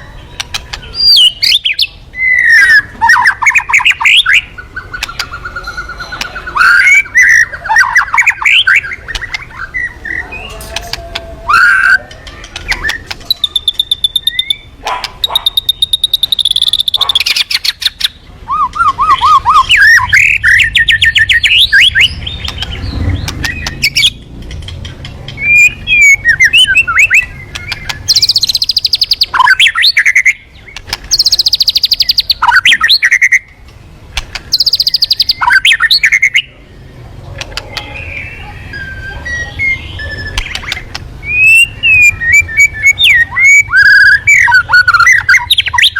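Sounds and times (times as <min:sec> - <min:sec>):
songbird singing trills and whistles: 0:00.0 - 0:33.6, 0:34.2 - 0:45.9.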